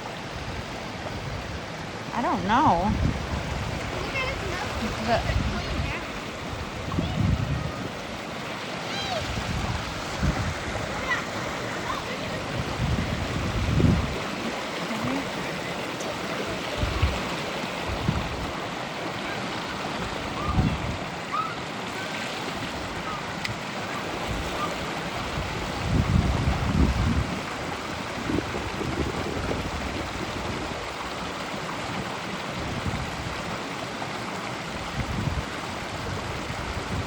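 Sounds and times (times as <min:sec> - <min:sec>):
wind rumble on microphone: 0:00.0 - 0:08.2, 0:08.9 - 0:18.6, 0:20.0 - 0:21.2, 0:22.6 - 0:31.3, 0:32.0 - 0:33.6, 0:34.7 - 0:37.0
creek water running over rocks: 0:00.0 - 0:37.0.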